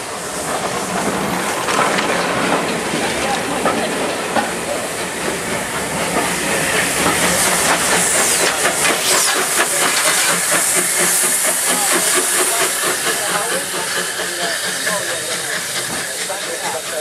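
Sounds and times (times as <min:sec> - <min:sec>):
steam locomotive hissing: 0:00.0 - 0:17.0
train wheels clicking on rails: 0:00.0 - 0:17.0.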